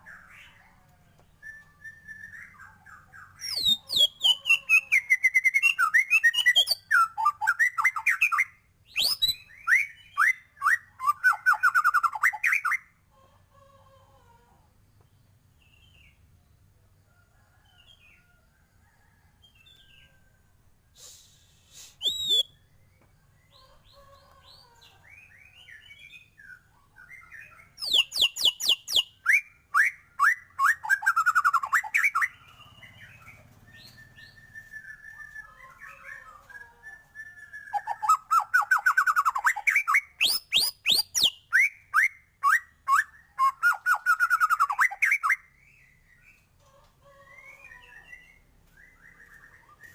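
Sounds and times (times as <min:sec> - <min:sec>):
bird singing: 0:00.0 - 0:13.1, 0:21.0 - 0:49.9.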